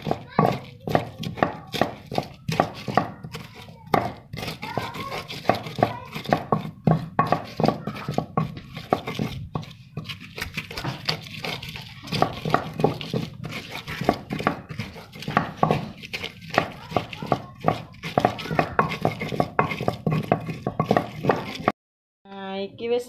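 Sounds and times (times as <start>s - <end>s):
stone pestle knocking in mortar: 0.0s - 21.7s
pestle scraping in mortar: 0.0s - 21.8s.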